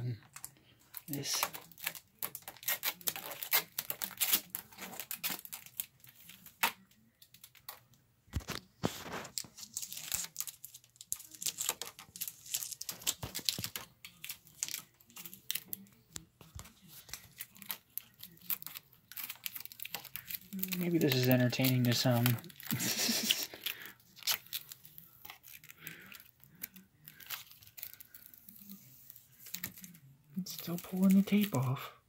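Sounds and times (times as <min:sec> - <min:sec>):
tape peeling off plastic: 0:01.1 - 0:31.6.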